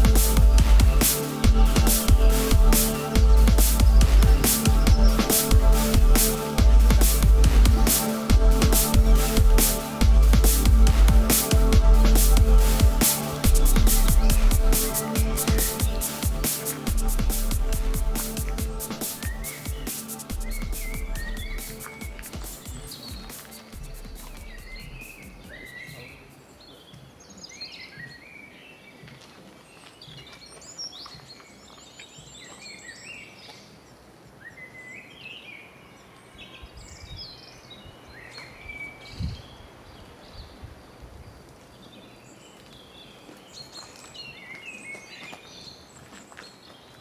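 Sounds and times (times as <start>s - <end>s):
faint outdoor background noise: 0.0s - 47.0s
songbirds singing: 0.0s - 47.0s.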